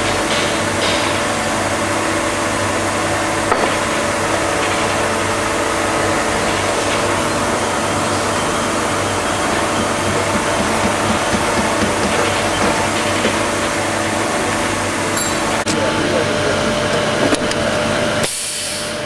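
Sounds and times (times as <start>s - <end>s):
machine mechanical hum: 0.0s - 19.0s.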